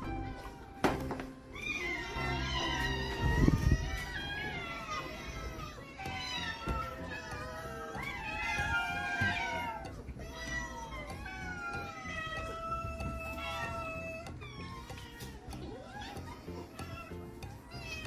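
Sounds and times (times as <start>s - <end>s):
cat meowing: 1.5s - 18.0s.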